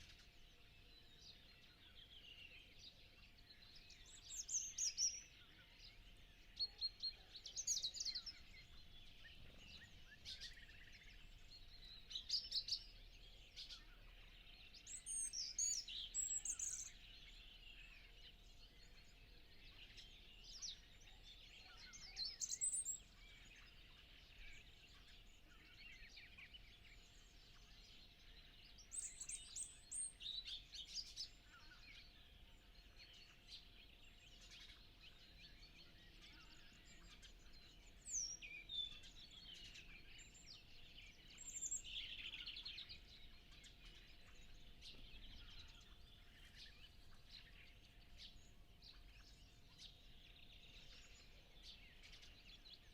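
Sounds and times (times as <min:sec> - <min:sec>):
songbirds chirping and singing: 0:00.0 - 0:52.9.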